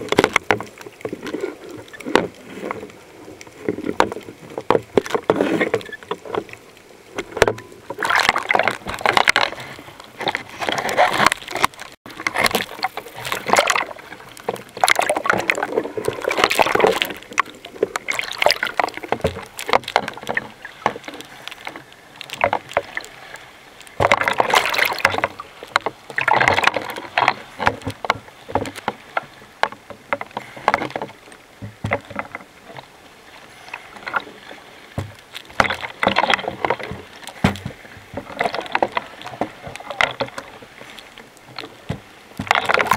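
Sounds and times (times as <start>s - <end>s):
sea water sloshing and splashing: 0.0s - 42.9s.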